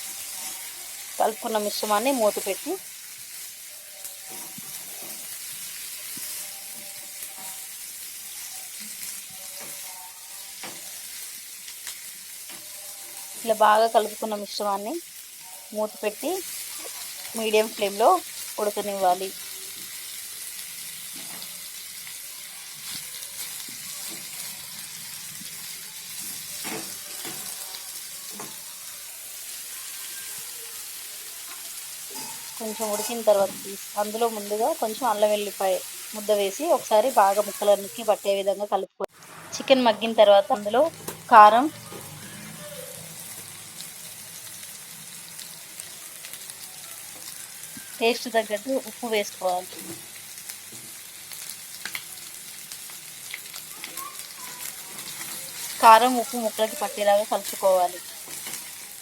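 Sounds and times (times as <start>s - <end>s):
chicken sizzling in hot oil: 0.0s - 59.0s.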